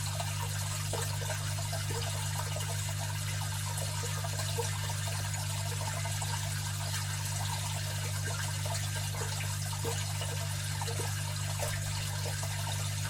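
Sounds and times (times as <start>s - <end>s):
filter motor hum: 0.0s - 13.0s
water trickling and splashing: 0.0s - 13.0s.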